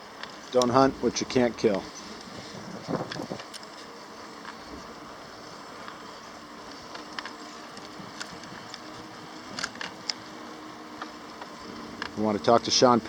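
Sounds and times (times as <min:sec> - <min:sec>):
bicycle riding hum: 0:00.0 - 0:13.0.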